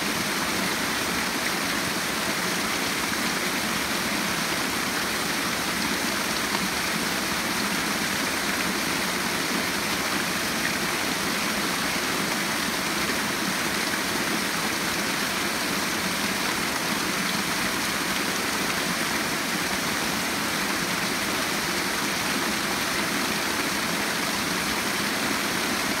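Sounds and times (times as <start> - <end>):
creek rushing over rocks: 0.0 - 26.0.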